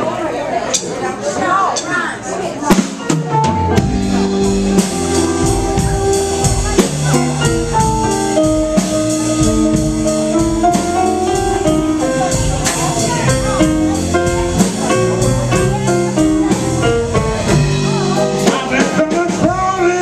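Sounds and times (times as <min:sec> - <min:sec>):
keyboard: 0:02.5 - 0:20.0
drum kit beat: 0:02.6 - 0:20.0
electric bass: 0:03.4 - 0:20.0
electric guitar: 0:03.4 - 0:20.0.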